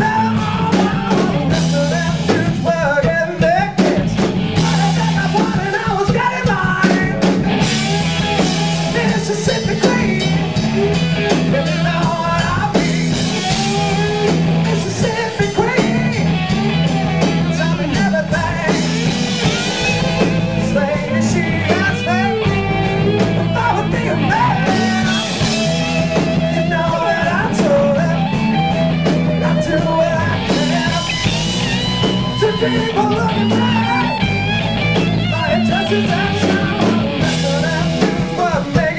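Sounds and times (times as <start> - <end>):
bass guitar: 0.0 - 38.9
drums: 0.0 - 38.9
electric guitars: 0.0 - 38.9
man singing: 0.0 - 38.9.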